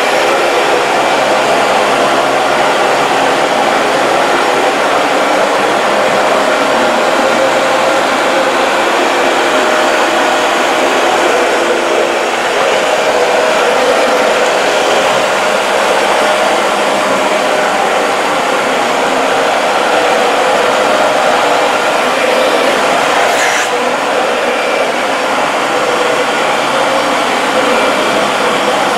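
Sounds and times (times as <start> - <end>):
vacuum cleaner running over rug: 0.0 - 28.9.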